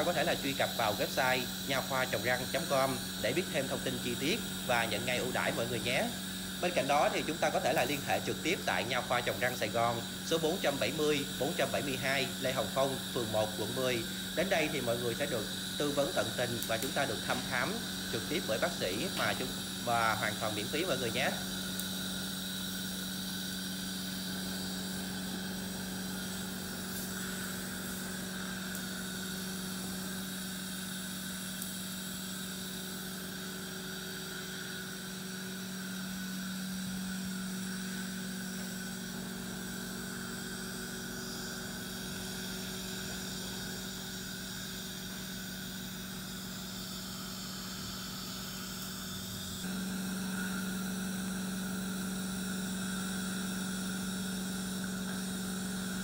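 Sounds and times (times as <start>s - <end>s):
dental suction hum with hiss: 0.0s - 56.0s.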